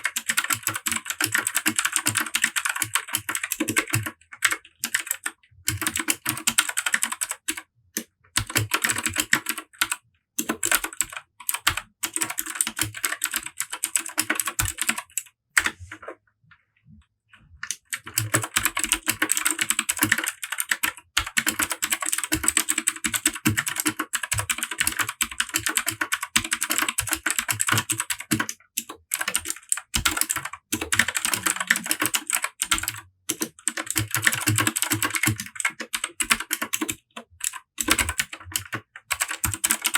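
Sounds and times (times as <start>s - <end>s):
mechanical keyboard typing clicks: 0.0s - 15.7s, 17.6s - 39.9s.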